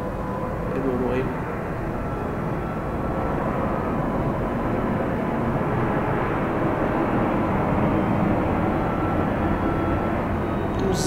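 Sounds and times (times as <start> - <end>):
airplanes rumbling: 0.0 - 11.0.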